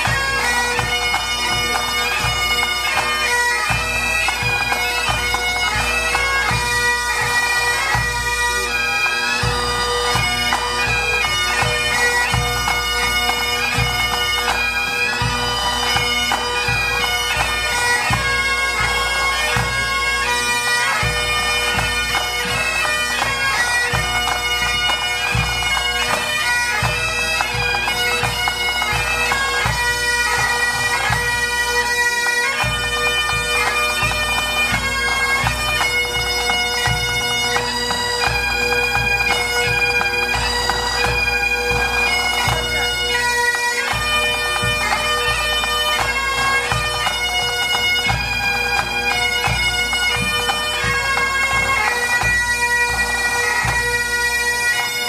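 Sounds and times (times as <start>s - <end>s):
bagpipes playing a tune: 0.0s - 55.0s.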